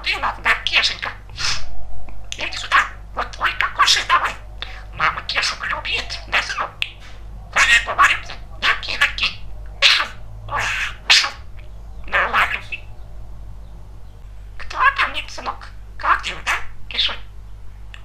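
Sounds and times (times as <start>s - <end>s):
budgerigar chattering and warbling: 0.0s - 1.6s, 2.4s - 13.0s, 14.6s - 17.4s.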